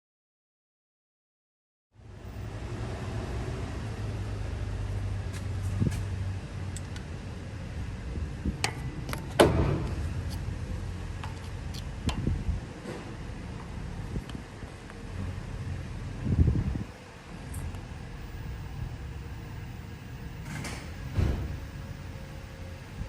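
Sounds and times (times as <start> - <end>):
vehicle low hum: 2.0 - 23.0.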